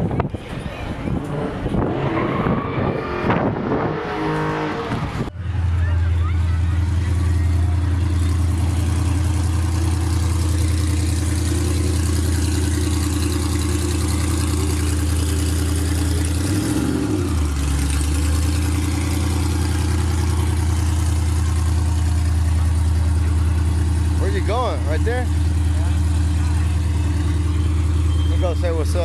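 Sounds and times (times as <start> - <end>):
car engine idling: 4.4 - 29.0.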